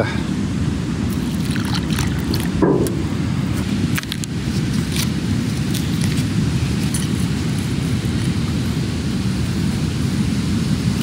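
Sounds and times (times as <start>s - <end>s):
wind buffeting microphone: 0.6s - 11.0s.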